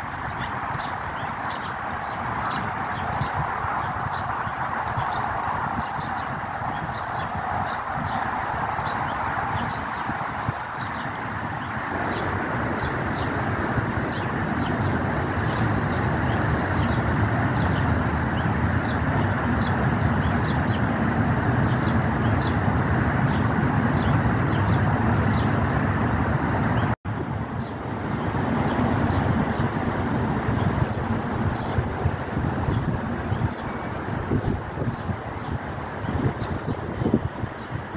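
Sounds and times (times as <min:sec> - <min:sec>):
small birds chirping: 0:00.0 - 0:37.9
wind buffeting microphone: 0:00.0 - 0:37.9.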